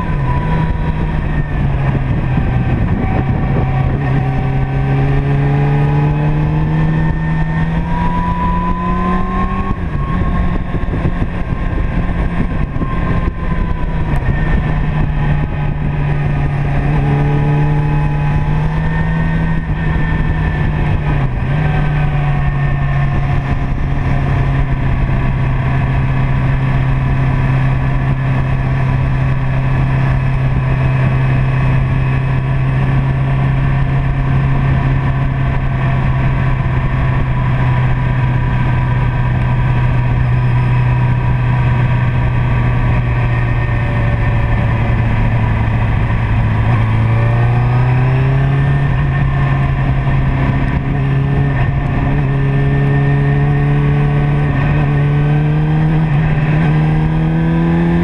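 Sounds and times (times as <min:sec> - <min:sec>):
motorcycle engine accelerating: 0:00.0 - 0:58.0
wind rushing over microphone: 0:00.0 - 0:58.0.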